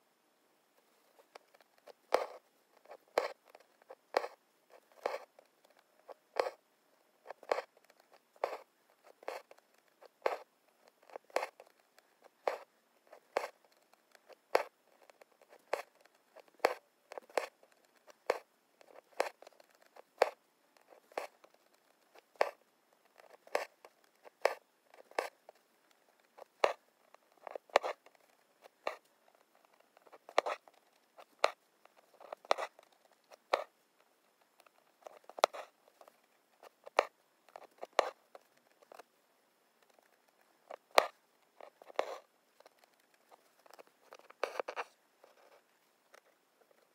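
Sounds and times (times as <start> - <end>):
needle and thread through linen: 0.7 - 46.9.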